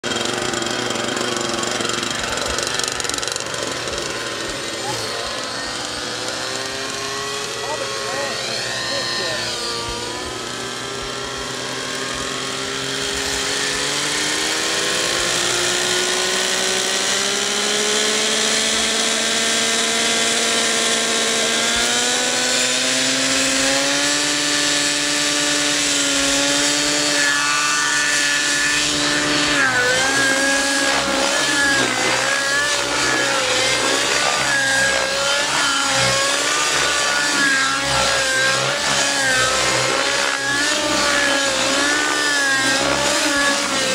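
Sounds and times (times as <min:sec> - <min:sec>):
model helicopter engine and rotor: 0:00.0 - 0:43.9.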